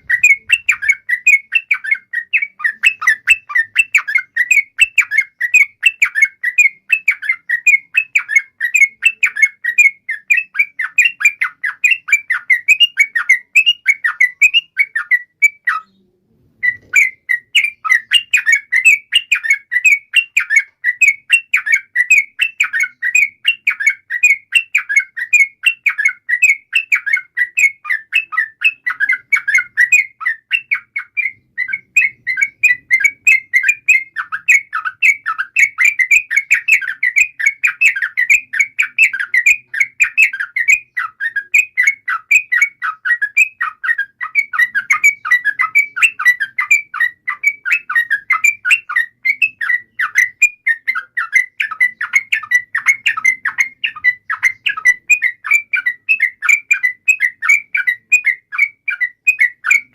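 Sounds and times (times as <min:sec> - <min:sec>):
bird singing chattering notes: 0:00.0 - 0:59.9.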